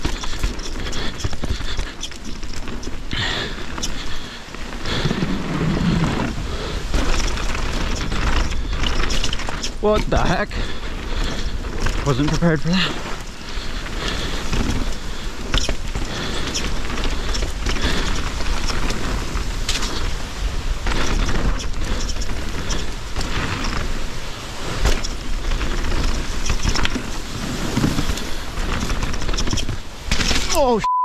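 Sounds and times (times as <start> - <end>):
bike rattling and knocking: 0.0 - 30.5
wind rumbling on microphone: 0.0 - 30.5
bike tyres crunching over rocks: 0.0 - 30.8.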